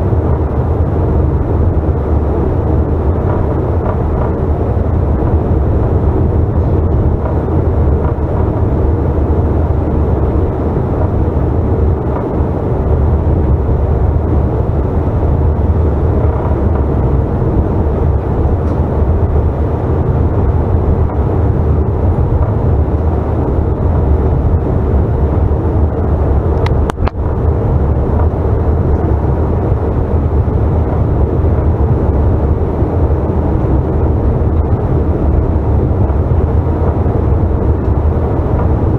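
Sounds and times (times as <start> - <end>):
jet cabin drone: 0.0 - 38.9.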